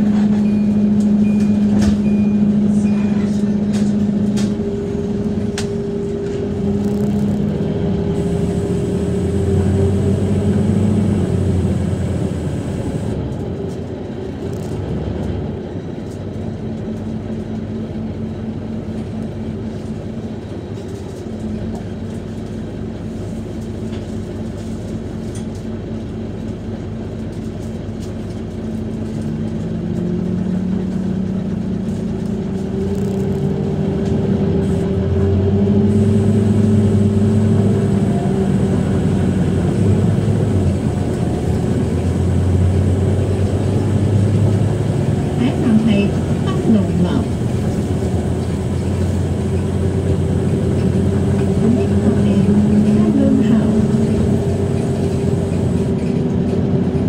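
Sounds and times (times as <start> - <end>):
bus engine: 0.0 - 57.0.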